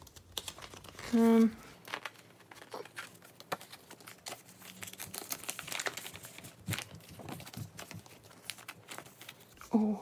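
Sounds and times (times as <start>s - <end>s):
plastic sleeves crinkling: 0.0s - 10.0s.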